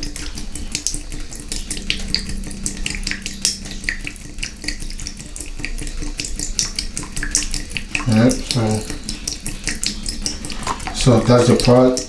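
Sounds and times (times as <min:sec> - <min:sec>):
water dripping into a tub: 0:00.0 - 0:12.0.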